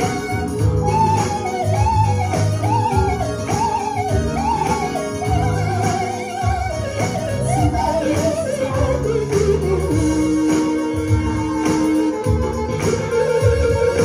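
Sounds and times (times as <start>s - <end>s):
electric keyboard r and b groove: 0.0s - 14.0s.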